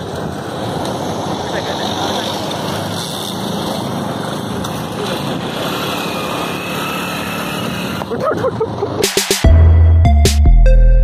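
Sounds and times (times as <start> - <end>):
scooter and motorcycle engines: 0.0 - 9.7
road noise: 0.0 - 11.0.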